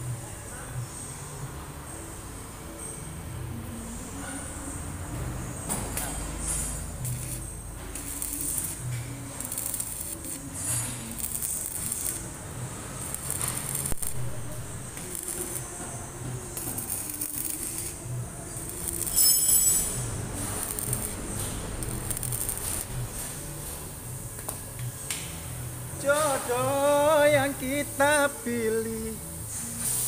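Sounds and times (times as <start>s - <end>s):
arc welder crackling: 5.8s - 30.0s.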